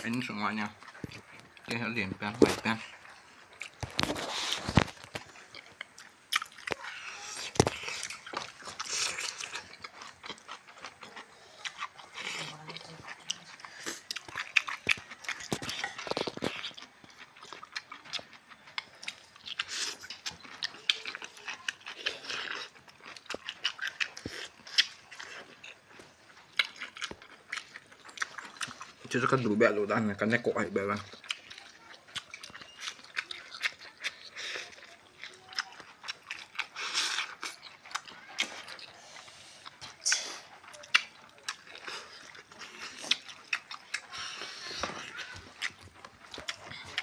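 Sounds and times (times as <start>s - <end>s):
chewing and lip-smacking: 0.0s - 47.0s.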